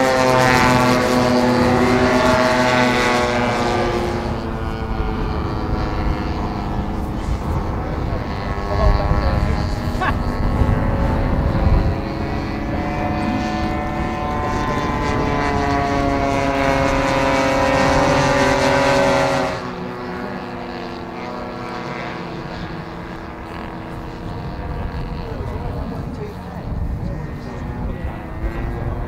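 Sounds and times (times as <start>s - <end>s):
model aircraft propeller drone: 0.0s - 29.0s.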